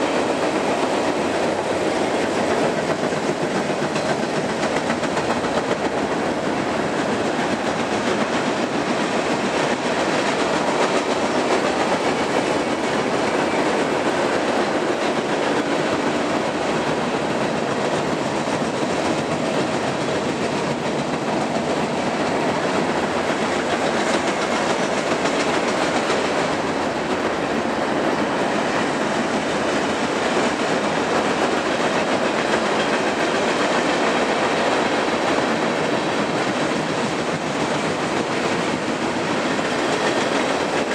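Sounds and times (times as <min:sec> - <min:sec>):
train wheels rolling on bridge: 0:00.0 - 0:40.9.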